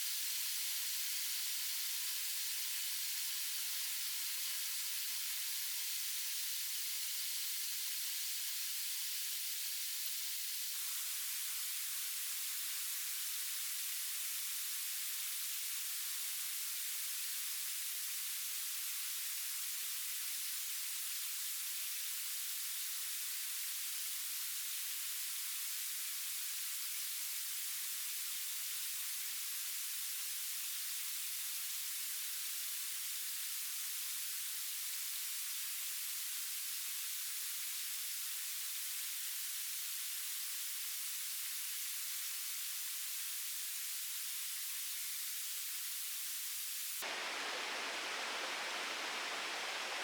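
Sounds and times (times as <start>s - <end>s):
steady high hiss: 0.0s - 50.0s.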